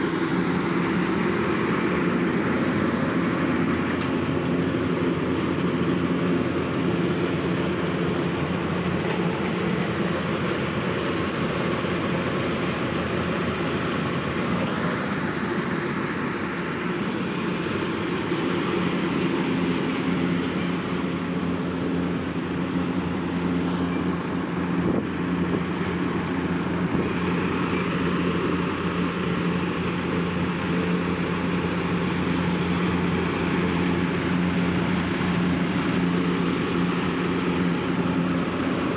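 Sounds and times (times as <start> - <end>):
tractor engine drone: 0.0 - 38.9.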